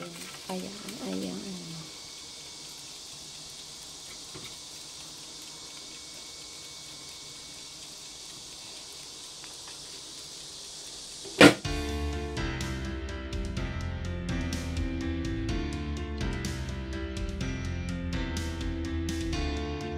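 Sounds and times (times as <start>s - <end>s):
grill sizzling: 0.0s - 19.9s.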